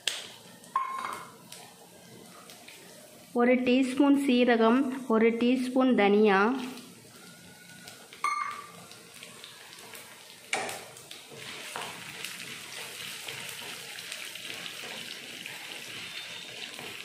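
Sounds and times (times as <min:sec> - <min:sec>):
seeds sizzling in hot oil: 0:00.0 - 0:03.4, 0:06.6 - 0:17.0.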